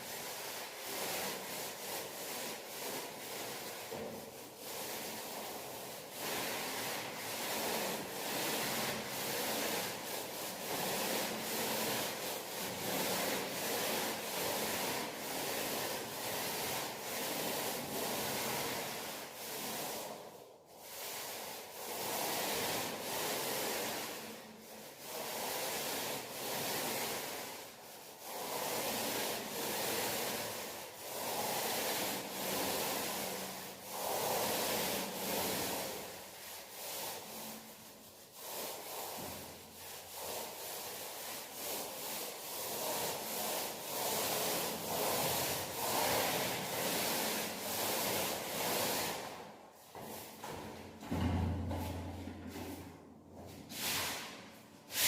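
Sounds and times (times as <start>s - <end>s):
paint roller rubbing hiss: 0.0s - 55.0s.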